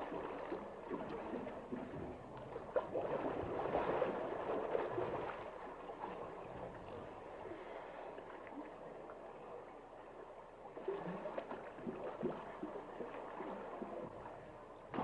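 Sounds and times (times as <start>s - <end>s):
water gurgling and bubbling: 0.0s - 7.7s, 10.6s - 15.0s.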